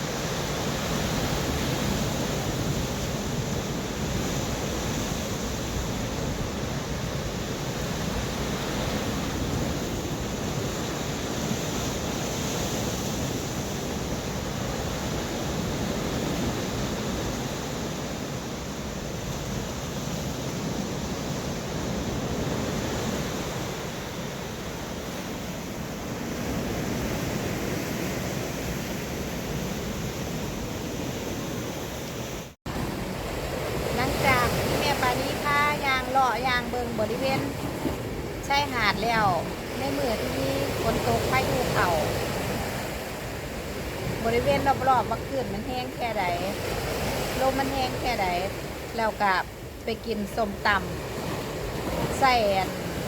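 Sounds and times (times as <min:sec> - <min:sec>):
surf pounding the shore: 0:00.0 - 0:53.0
wind buffeting microphone: 0:00.0 - 0:53.0.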